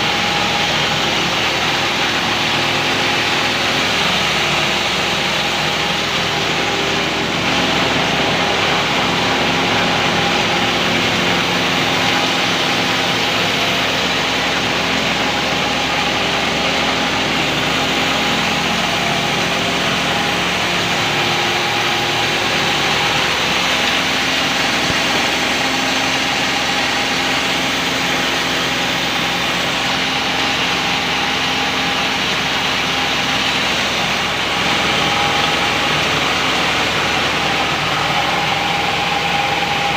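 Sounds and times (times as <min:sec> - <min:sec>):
feeding machine motor hum: 0:00.0 - 0:39.9
mechanical rushing noise: 0:00.0 - 0:39.9.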